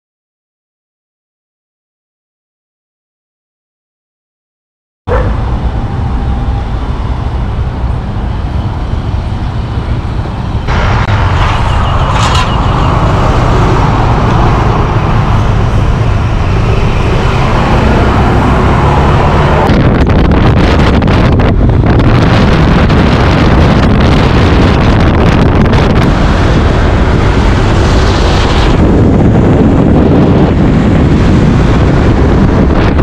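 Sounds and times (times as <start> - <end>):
road and wind noise: 5.1 - 33.0
wind gusts on microphone: 5.1 - 33.0.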